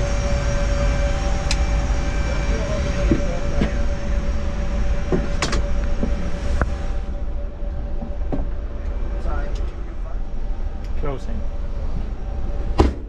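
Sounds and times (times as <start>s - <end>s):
steady tone: 0.0s - 13.0s.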